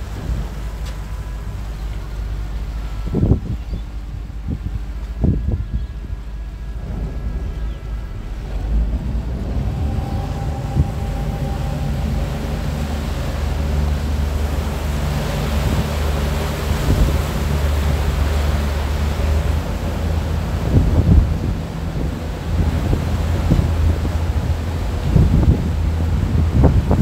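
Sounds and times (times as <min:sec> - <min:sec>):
ferry engine droning: 0:00.0 - 0:27.0
water rushing in wake: 0:00.0 - 0:27.0
wind on microphone: 0:02.7 - 0:27.0.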